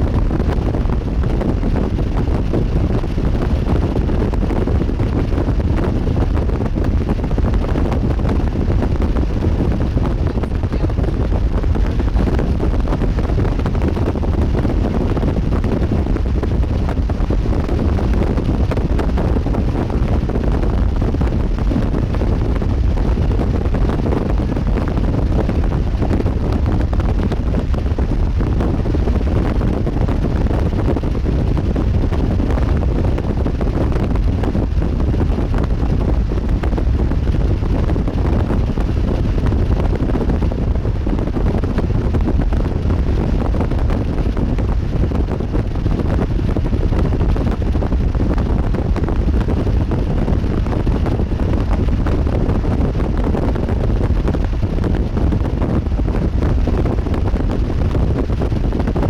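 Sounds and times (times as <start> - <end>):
wind blowing across microphone: 0.0 - 59.0.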